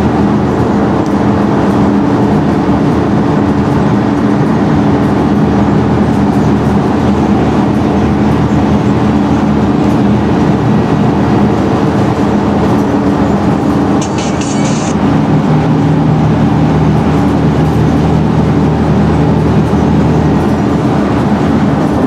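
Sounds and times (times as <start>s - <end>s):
bus diesel engine droning: 0.0s - 22.0s
road noise: 0.0s - 22.0s.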